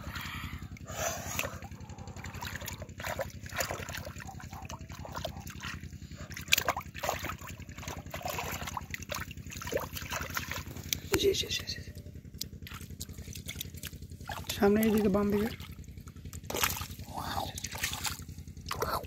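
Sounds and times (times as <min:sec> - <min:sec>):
muddy water splashing: 0:00.0 - 0:19.0
steady low hum: 0:00.0 - 0:19.0.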